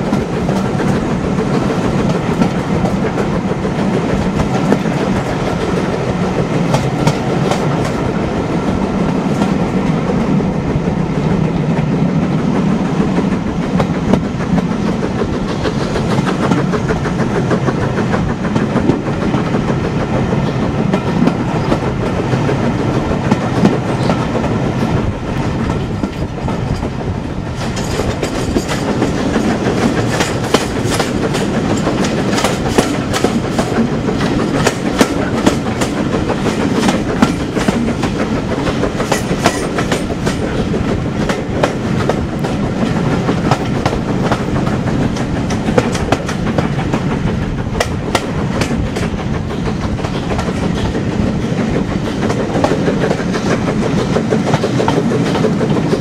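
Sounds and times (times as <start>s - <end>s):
train wheels clattering over rail joints: 0.0s - 56.0s.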